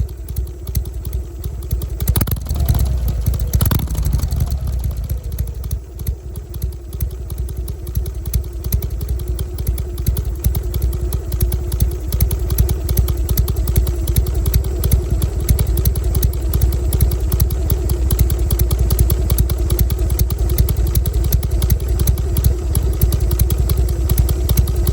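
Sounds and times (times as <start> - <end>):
motorcycle exhaust beat: 0.0 - 24.9.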